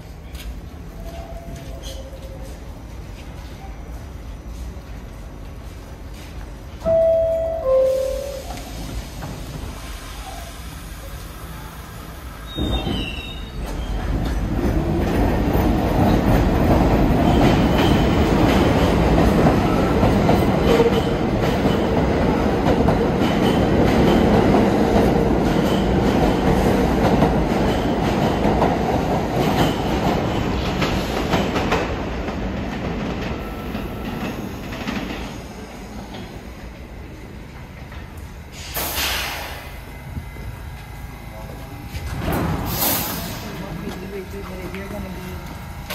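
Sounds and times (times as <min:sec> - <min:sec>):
subway wheels clacking over joints: 0:00.0 - 0:45.9.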